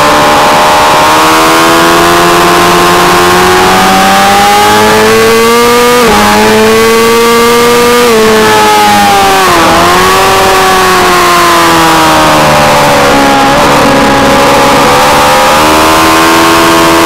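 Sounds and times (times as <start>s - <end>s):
race motorcycle engine revving: 0.0s - 17.0s.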